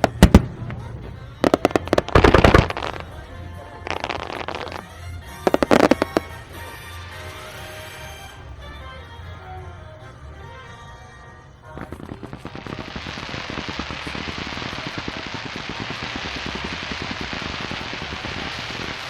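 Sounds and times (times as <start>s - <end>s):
fireworks crackling: 0.0s - 19.0s
music: 0.0s - 19.0s.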